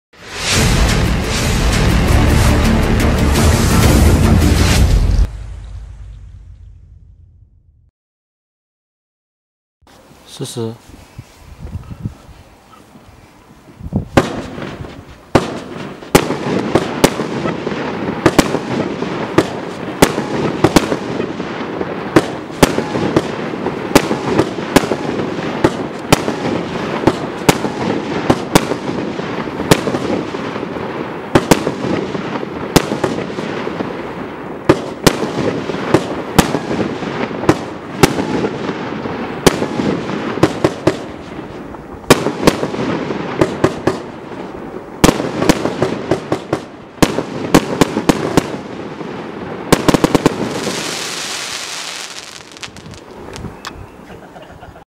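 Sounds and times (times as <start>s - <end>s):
fireworks bangs: 0.2s - 6.1s, 13.9s - 53.7s.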